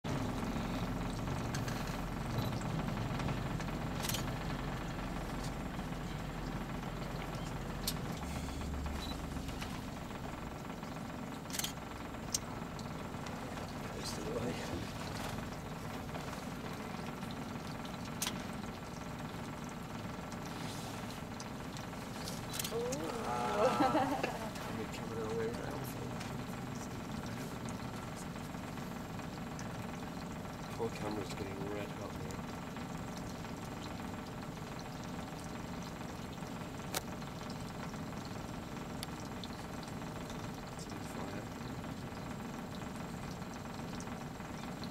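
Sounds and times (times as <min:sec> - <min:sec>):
boat engine idling: 0:00.0 - 0:44.9.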